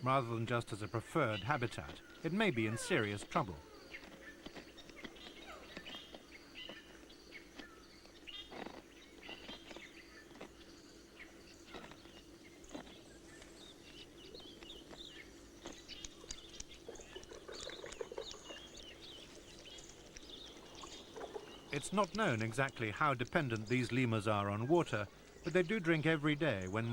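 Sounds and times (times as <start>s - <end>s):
bird chirps and calls: 0.2s - 26.9s
steady low hum: 3.2s - 26.9s.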